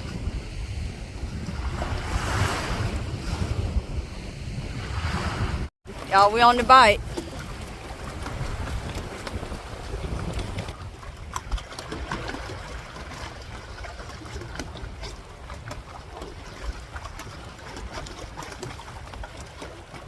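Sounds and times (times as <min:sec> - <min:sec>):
water splashing around water bike: 0:00.0 - 0:20.0
wind buffeting the microphone: 0:00.0 - 0:20.0.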